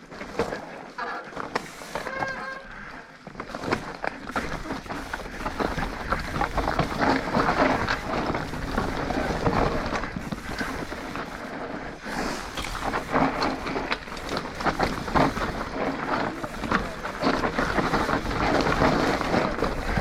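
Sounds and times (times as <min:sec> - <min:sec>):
bike frame rattling: 0:00.0 - 0:20.0
bike tyres crunching over rock: 0:00.0 - 0:20.0.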